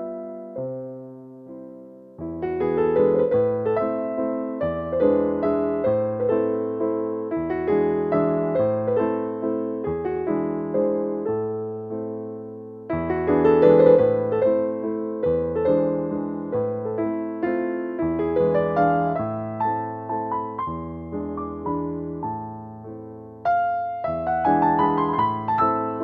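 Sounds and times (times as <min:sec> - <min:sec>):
piano notes and chords: 0:00.0 - 0:26.0.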